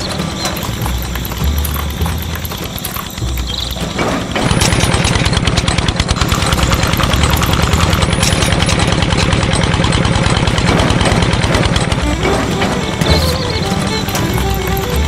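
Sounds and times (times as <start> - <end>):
cement mixer chugging: 0.0 - 15.0.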